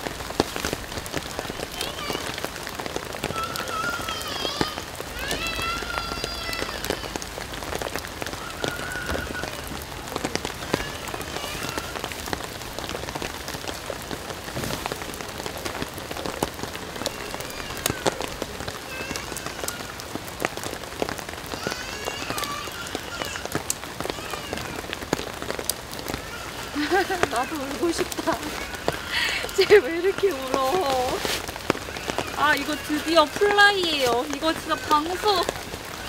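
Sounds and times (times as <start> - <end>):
rain on a wooden deck: 0.0 - 36.0.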